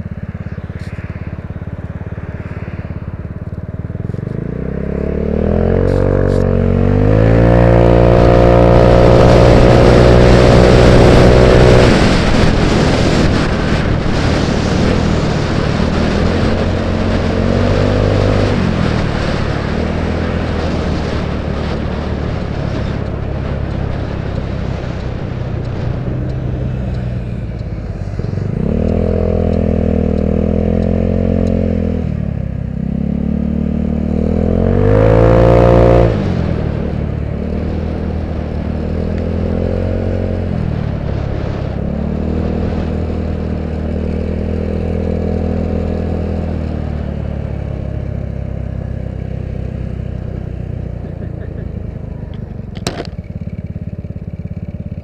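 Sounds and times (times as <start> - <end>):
scooter engine accelerating: 0.0 - 55.0
wind and road noise: 0.0 - 55.0.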